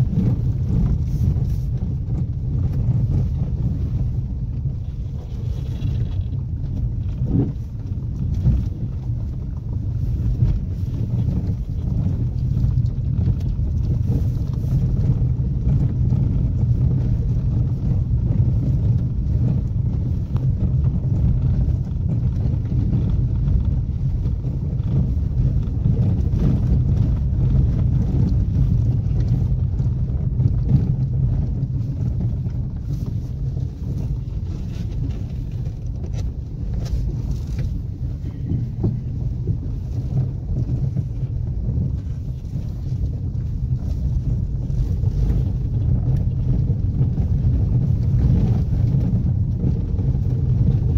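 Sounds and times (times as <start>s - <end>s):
engine and tyres rumbling: 0.0s - 50.9s.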